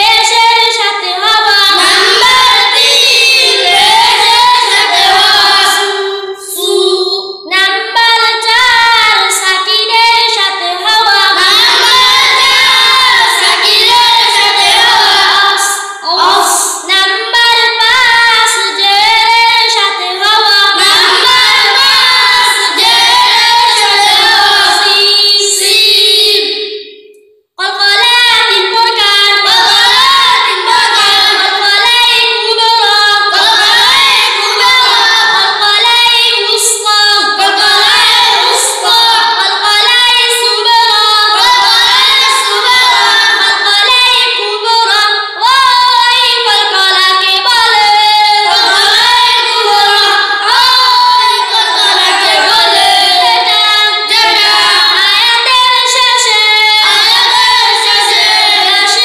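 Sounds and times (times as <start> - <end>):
children chanting together: 0.0 - 27.0, 27.6 - 59.0.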